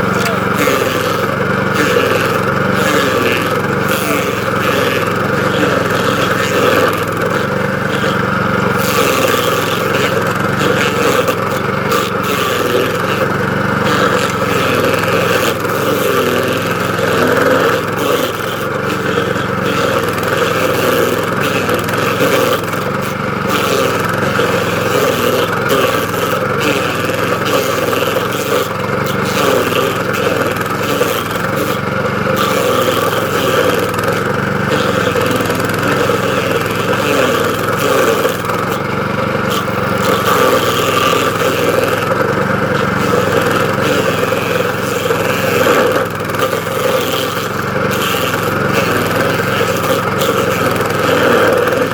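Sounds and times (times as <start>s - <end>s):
cutter wheel grinding stump: 0.0s - 51.9s
engine running under load: 0.0s - 51.9s.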